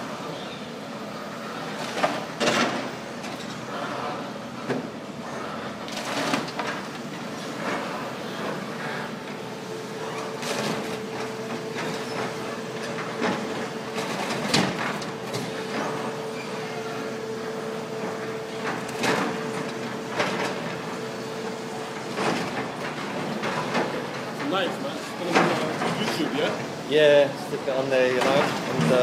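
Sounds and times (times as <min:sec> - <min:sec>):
excavator engine drone: 0:00.0 - 0:29.0
rubble and steel clanking: 0:05.7 - 0:29.0.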